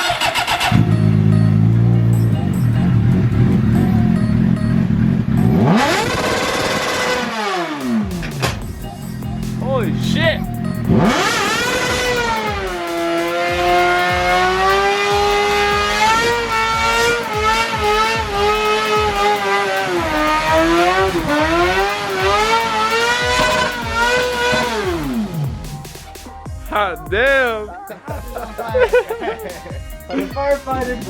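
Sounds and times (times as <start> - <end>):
car engine at high revs: 0.0 - 9.6, 10.4 - 26.2.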